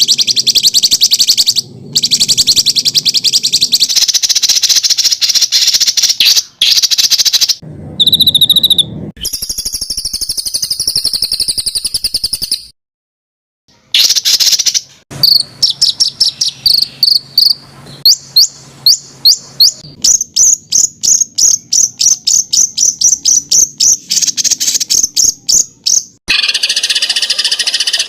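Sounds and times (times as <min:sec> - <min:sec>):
songbird harsh trills: 0:00.0 - 0:12.6, 0:13.7 - 0:28.0
sharp bird chirps: 0:00.0 - 0:12.8, 0:13.7 - 0:28.0.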